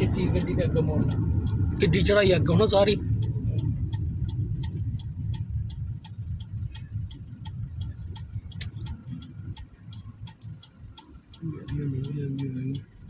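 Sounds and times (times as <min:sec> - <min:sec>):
truck engine and road rumble: 0:00.0 - 0:13.0
turn-signal indicator ticking: 0:00.0 - 0:13.0.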